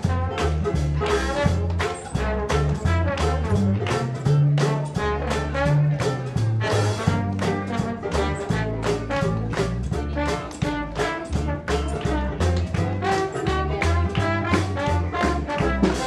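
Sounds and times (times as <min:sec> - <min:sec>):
jazz band playing: 0:00.0 - 0:16.0.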